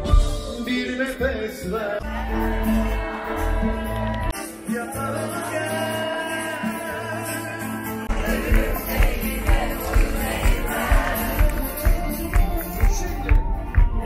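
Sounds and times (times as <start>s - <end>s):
person singing: 0.0s - 13.3s
live pop music over pa: 0.0s - 14.0s.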